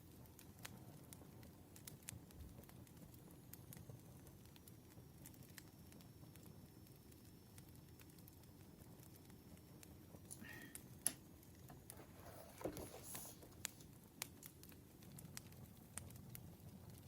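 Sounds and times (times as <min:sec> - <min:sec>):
campfire crackling: 0:00.0 - 0:17.0
fire rustling flare: 0:00.0 - 0:17.0.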